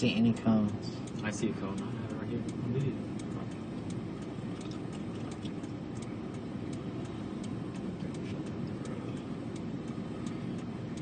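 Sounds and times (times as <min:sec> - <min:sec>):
vehicle road noise rumble: 0:00.0 - 0:11.0
light ticks: 0:00.1 - 0:11.0.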